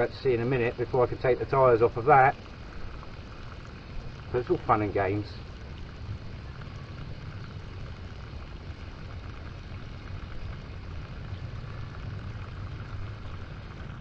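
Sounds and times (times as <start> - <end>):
water pouring from bucket: 0.0 - 14.0.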